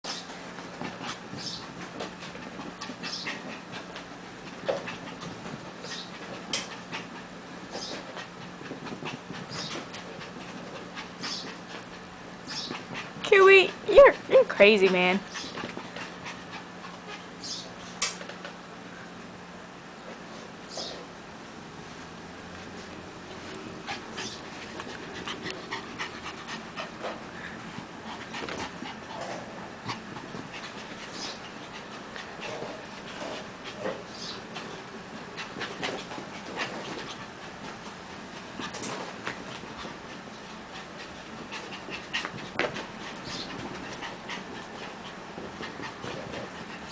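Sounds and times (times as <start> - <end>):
steady low hum: 0.0 - 46.9
puppy paws tapping on carpet: 0.1 - 17.3, 22.5 - 29.2, 29.9 - 46.9
small dogs panting: 0.1 - 18.4, 22.6 - 46.9.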